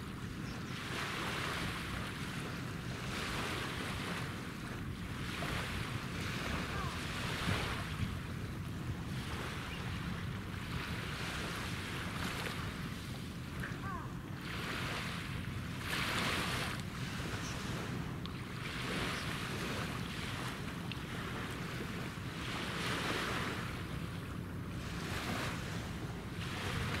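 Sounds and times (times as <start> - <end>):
waves washing against shore: 0.0 - 27.0.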